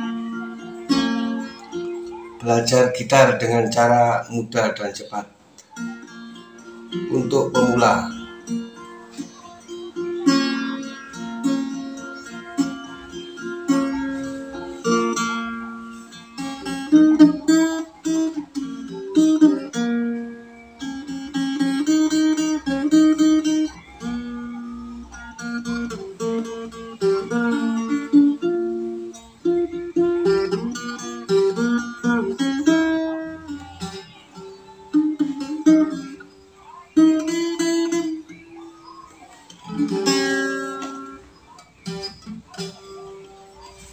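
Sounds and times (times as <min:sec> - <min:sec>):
acoustic guitar played solo: 0:00.0 - 0:43.9.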